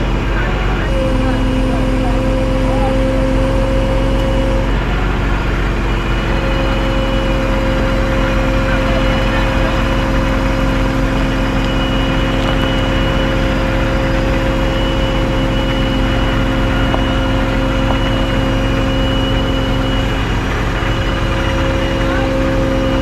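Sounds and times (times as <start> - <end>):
tow truck engine running: 0.0 - 23.0
winch whine: 0.0 - 23.0.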